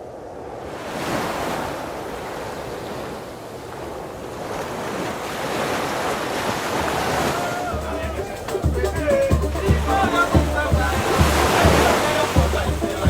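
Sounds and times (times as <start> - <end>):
rushing sea water: 0.0 - 13.0
wind on microphone: 0.0 - 13.0.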